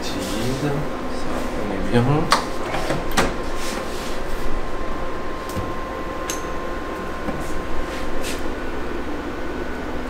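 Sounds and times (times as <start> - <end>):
printer fans humming: 0.0 - 10.0.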